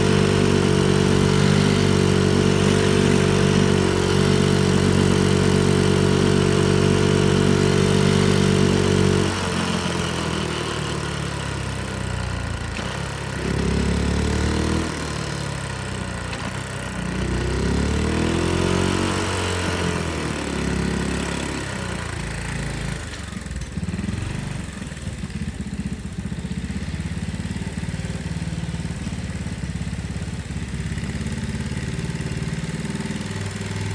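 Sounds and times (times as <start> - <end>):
minibike engine revving and idling: 0.0 - 33.9.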